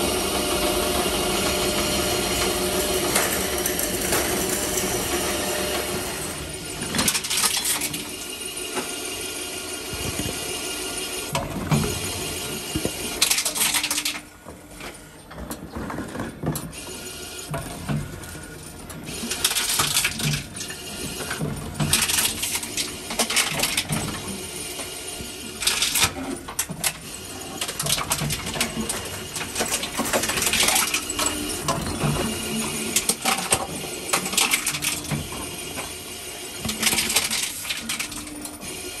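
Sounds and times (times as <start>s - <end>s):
bottles clattering in machine: 0.7s - 8.8s, 11.3s - 14.4s, 17.4s - 24.5s, 25.3s - 39.0s.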